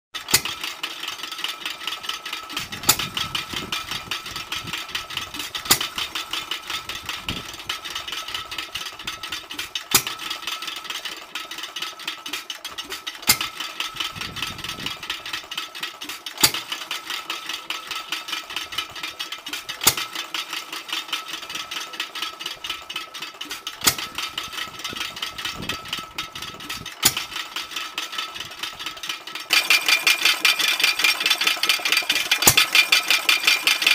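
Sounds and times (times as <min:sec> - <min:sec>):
engine clicking and rattling: 0:00.2 - 0:33.9.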